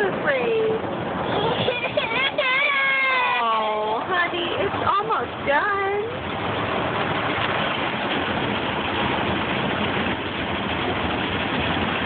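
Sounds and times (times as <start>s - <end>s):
car wash water spray and machinery: 0.0s - 12.0s.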